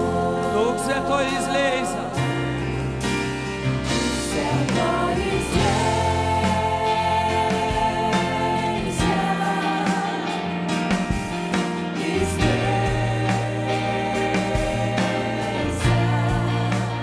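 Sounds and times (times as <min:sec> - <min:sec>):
women singing: 0:00.0 - 0:02.5, 0:04.1 - 0:10.6, 0:12.0 - 0:17.0
piano: 0:00.0 - 0:17.0.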